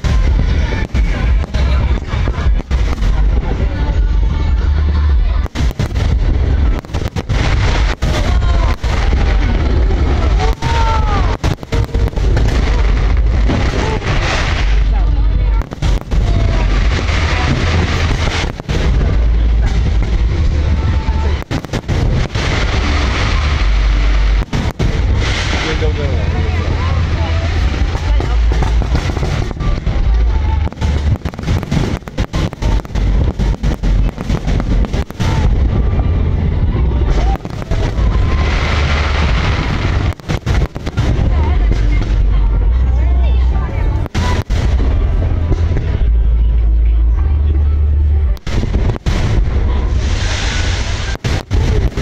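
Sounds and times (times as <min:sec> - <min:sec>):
fireworks booming: 0:00.0 - 0:46.8, 0:48.4 - 0:52.0.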